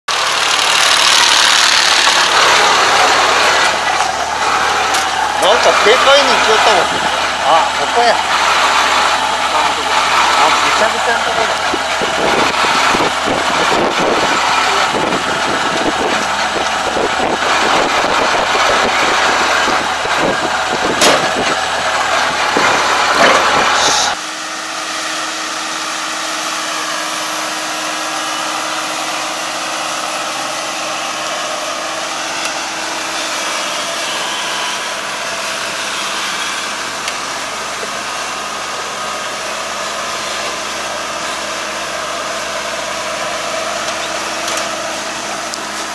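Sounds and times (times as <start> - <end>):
combine harvester running: 0.1 - 45.9.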